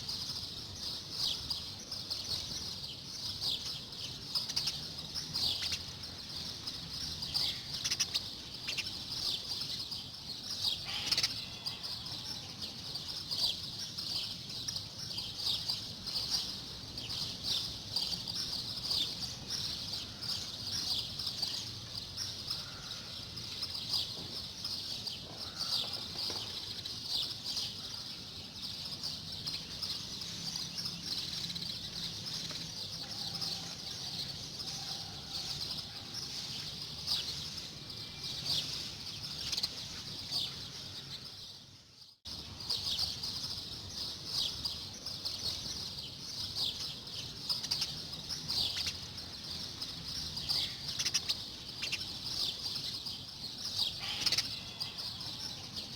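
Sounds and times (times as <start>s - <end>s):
small birds chirping and twittering: 0.0s - 55.9s.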